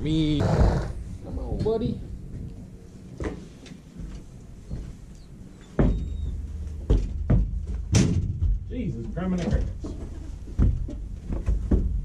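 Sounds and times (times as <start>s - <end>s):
hooves on trailer floor: 0.4s - 12.0s.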